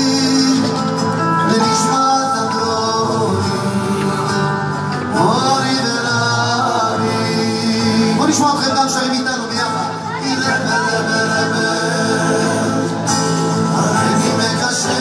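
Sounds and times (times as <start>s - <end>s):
live pop band music: 0.0s - 15.0s
man singing: 0.0s - 15.0s.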